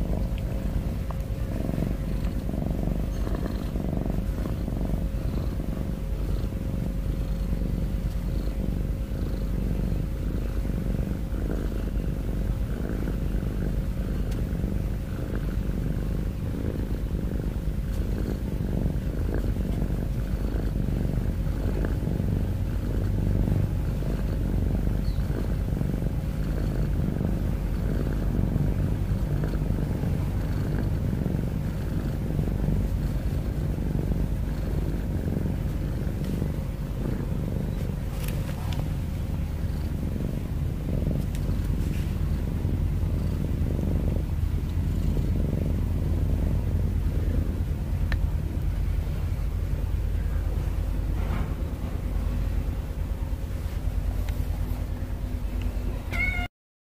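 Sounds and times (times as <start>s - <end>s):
cat purring: 0.0s - 56.5s.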